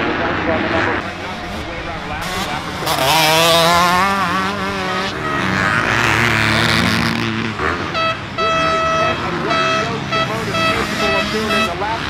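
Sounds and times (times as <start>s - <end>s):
motocross bike engine racing: 0.0s - 12.0s
second bike engine: 0.0s - 12.0s.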